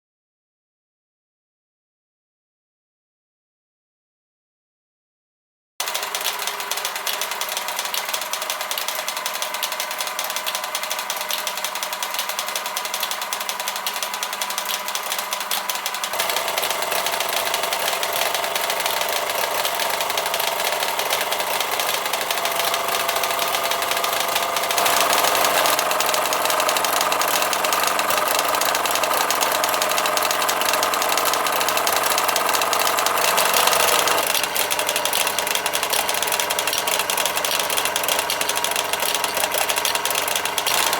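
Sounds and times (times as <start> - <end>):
rapid mechanical clatter: 5.8 - 40.9
toy steam engine running: 5.8 - 40.9.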